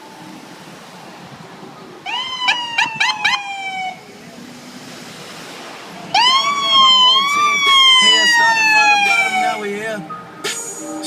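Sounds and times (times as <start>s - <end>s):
emergency vehicle siren wailing: 0.0s - 10.4s.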